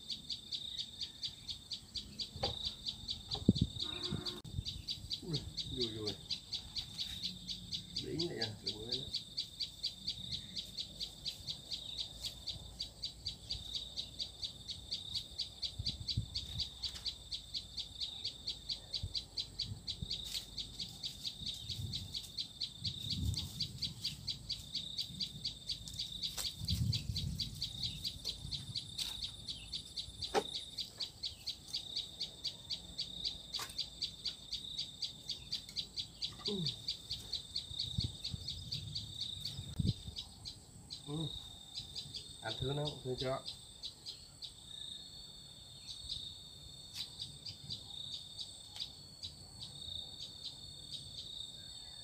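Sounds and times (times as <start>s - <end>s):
high-pitched chirping call: 0.0s - 44.9s.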